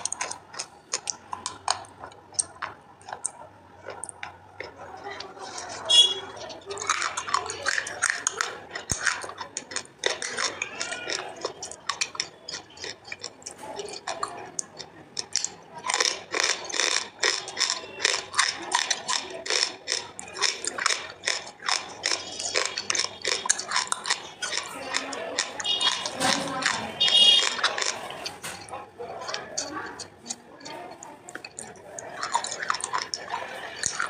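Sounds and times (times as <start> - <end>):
crunching of baked clay being chewed: 0.0 - 34.0.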